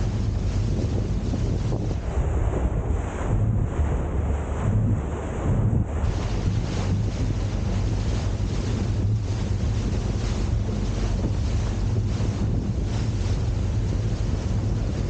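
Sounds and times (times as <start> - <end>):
boat engine drone: 0.0 - 15.0
water rushing off hull: 0.0 - 15.0
wind buffeting microphone: 0.0 - 15.0.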